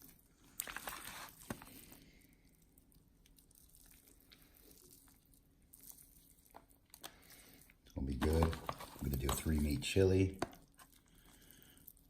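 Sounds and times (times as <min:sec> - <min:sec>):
soft squishing of meat: 0:00.0 - 0:12.0.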